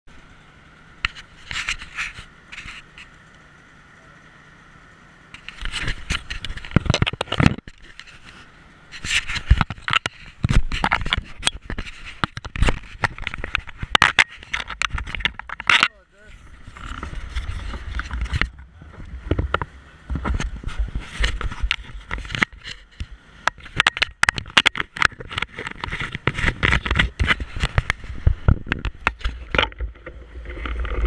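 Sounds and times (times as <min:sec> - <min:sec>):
rattle rolling over paving: 0:00.1 - 0:31.0
clicks and scrapes on camera: 0:01.0 - 0:03.4, 0:05.3 - 0:16.0, 0:16.6 - 0:31.0.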